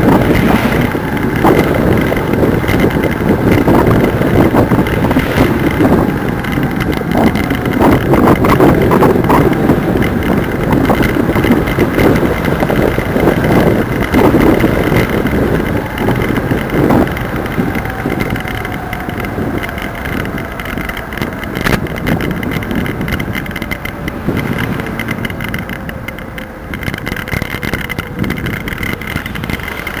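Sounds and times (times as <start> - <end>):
wind buffeting camera: 0.0 - 30.0.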